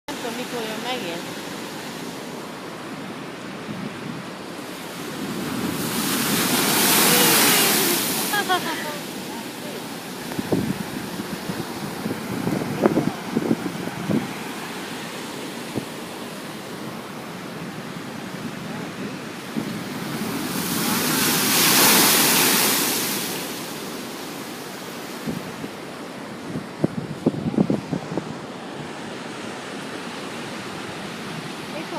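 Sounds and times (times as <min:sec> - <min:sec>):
ocean surf breaking: 0:00.1 - 0:31.9.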